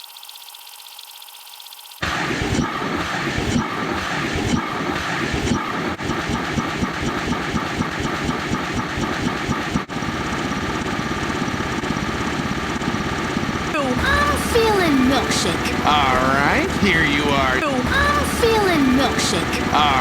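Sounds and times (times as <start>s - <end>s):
mechanical engine-like din: 0.0s - 20.0s.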